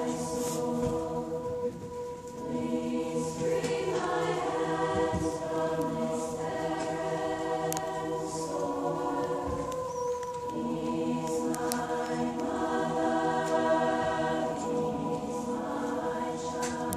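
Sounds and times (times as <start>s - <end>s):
choir singing held chords: 0.0s - 16.9s.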